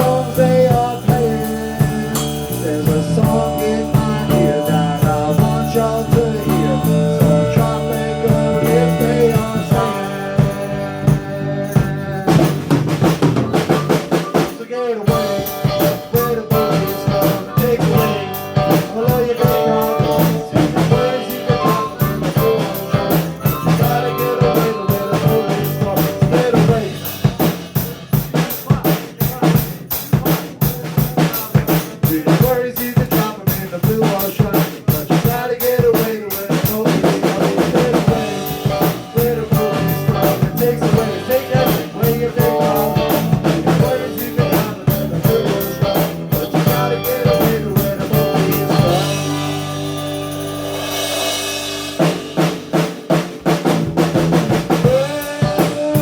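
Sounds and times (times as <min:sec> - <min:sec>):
live band playing country music: 0:00.0 - 0:56.0.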